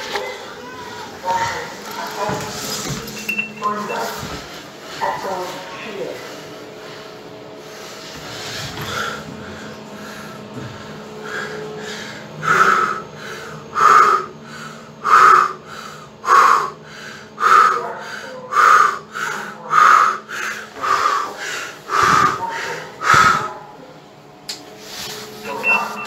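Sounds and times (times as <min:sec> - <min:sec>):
lift car hum: 0:00.0 - 0:26.0.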